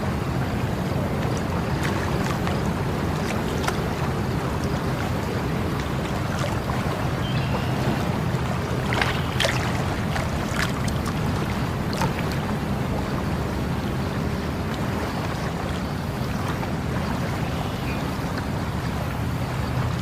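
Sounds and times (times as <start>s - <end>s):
water flowing: 0.0s - 20.0s
water splashes and gurgles: 0.0s - 20.0s.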